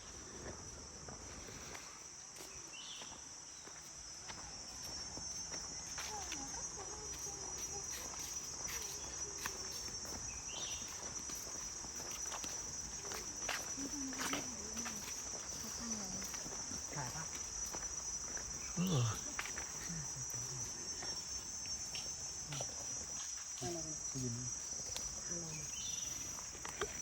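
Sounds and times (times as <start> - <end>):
footsteps crunching on trail: 0.0 - 27.0
insects droning: 0.0 - 27.0.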